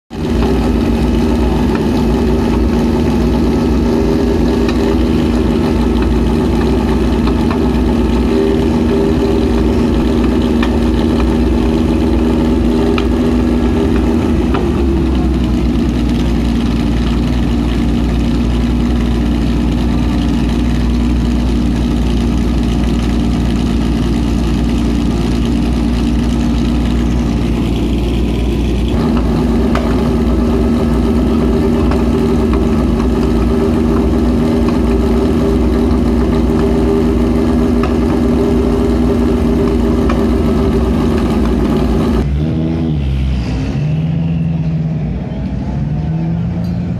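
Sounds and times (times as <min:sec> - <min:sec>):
car engine idling: 0:00.1 - 0:42.4.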